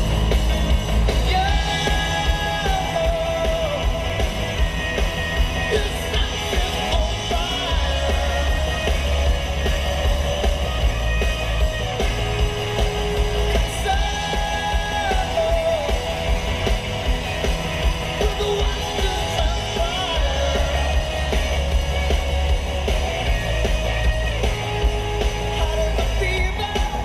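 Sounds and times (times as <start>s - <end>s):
rock song on car stereo: 0.0s - 27.0s.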